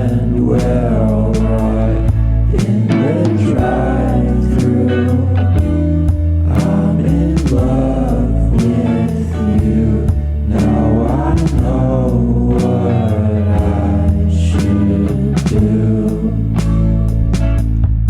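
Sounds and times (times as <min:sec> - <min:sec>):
song with vocals and beat: 0:00.0 - 0:17.9.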